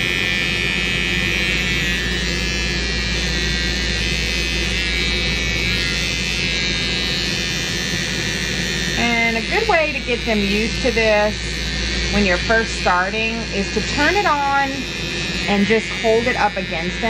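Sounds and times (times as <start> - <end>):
pet trimmer buzzing: 0.0 - 17.0.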